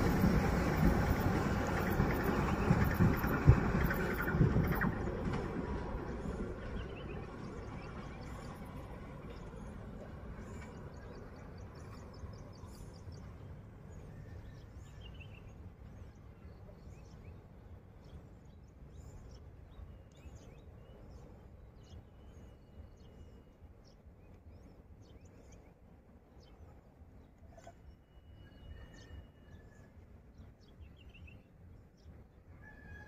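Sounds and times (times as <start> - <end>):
low rumble of a train: 0.0 - 33.0.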